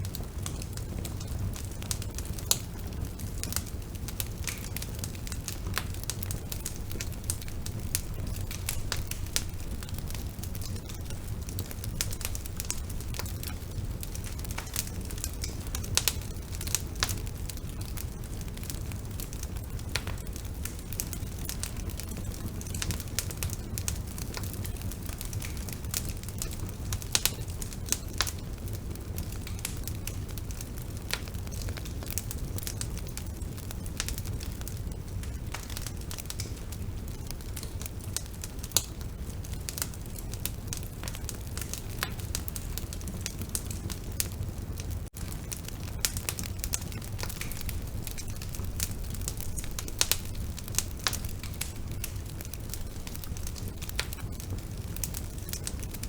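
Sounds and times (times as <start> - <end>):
burning wood crackling and popping: 0.0 - 56.0
low rumble of flames: 0.0 - 56.0.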